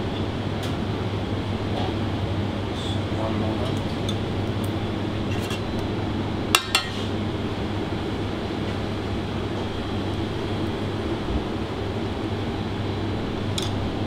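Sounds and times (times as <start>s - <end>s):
kitchen ventilation hum: 0.0s - 14.0s.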